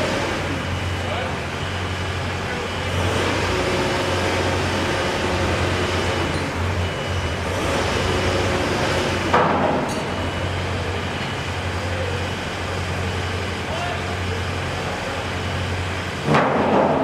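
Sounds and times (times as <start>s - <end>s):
machinery noise with low hum: 0.0s - 17.0s.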